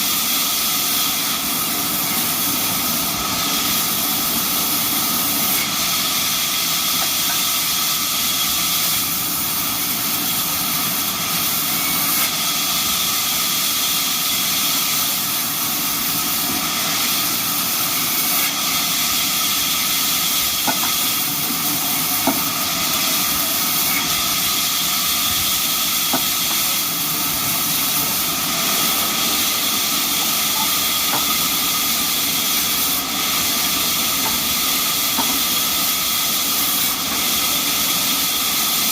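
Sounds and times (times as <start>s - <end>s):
band saw hissing and whining: 0.0s - 38.9s.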